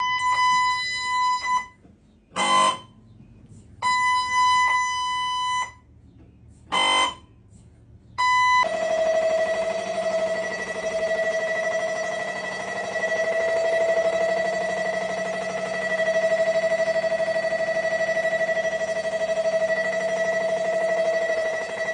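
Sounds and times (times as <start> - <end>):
mri loud buzz: 0.0 - 3.2, 6.7 - 7.4, 8.2 - 21.9.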